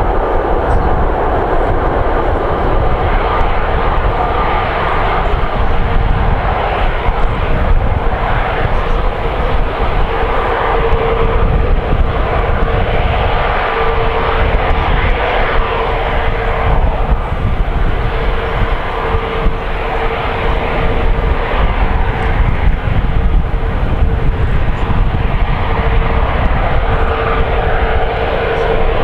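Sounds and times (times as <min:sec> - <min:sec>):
jet engines running: 0:00.0 - 0:29.0
steady engine tone: 0:00.0 - 0:29.0.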